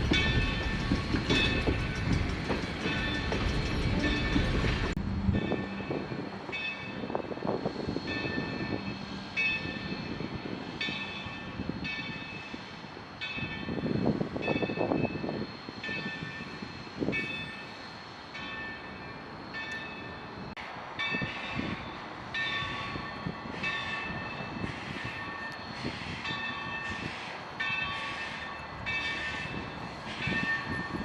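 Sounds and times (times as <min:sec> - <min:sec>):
locomotive bell ringing: 0:00.0 - 0:31.0
train rumbling: 0:00.0 - 0:31.0.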